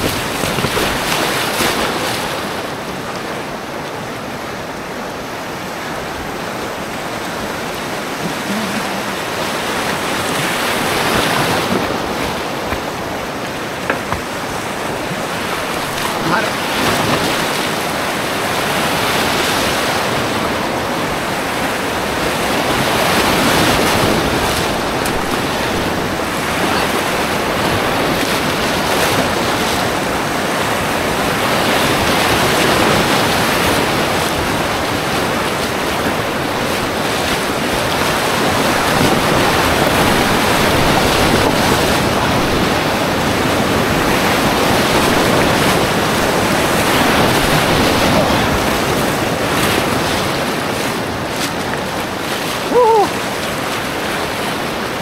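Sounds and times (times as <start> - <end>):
whitewater rapids rushing: 0.0 - 55.0.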